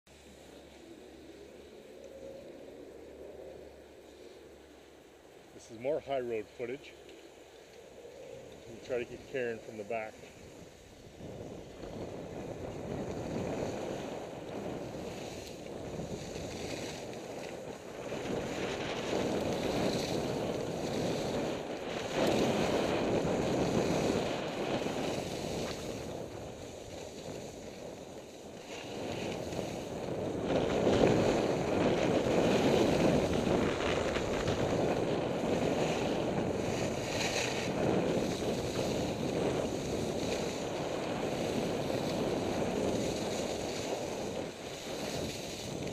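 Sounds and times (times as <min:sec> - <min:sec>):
wind rushing over microphone: 0:00.1 - 0:45.9
skis sliding over snow: 0:08.5 - 0:45.9.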